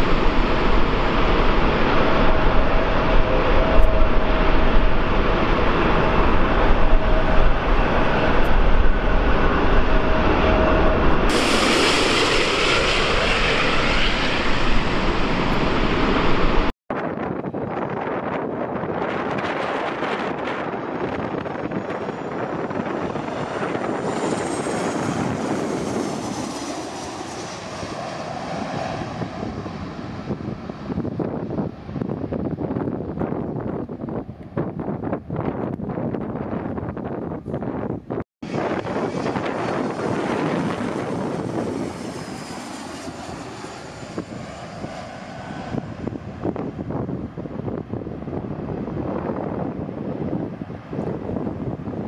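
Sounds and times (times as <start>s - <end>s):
jet airliner passing overhead: 0.0s - 52.0s
wind on microphone: 0.0s - 52.0s.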